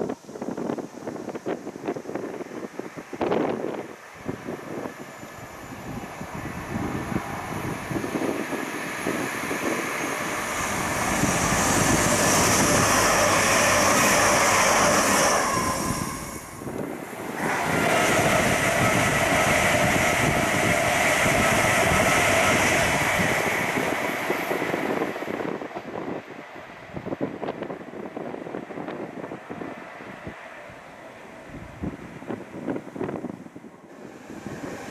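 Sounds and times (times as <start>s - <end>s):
train passing at speed: 0.0s - 34.9s
train whine: 0.0s - 34.9s.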